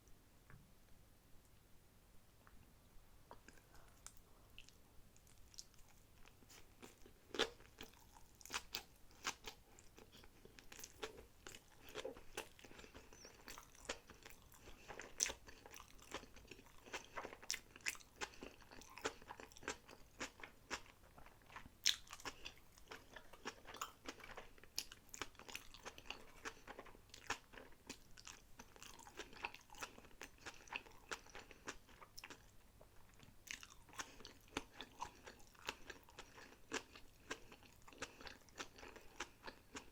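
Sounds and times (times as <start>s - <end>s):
chewing crunches: 3.3s - 32.5s, 33.1s - 39.9s.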